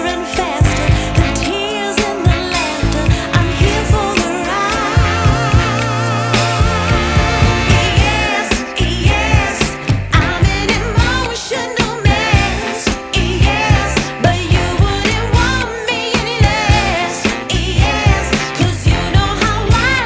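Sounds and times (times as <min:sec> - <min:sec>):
soul-pop song with vocals: 0:00.0 - 0:20.0.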